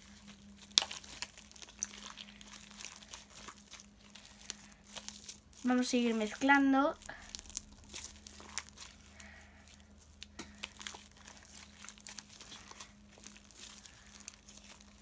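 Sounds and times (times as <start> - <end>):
faint steady hum: 0.0 - 15.0
slime crackling when kneaded: 0.0 - 15.0.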